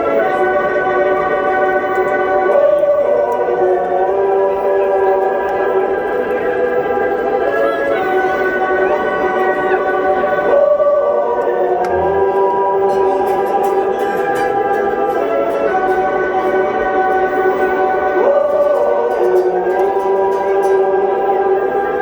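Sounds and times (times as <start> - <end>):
voices singing in harmony: 0.0 - 22.0.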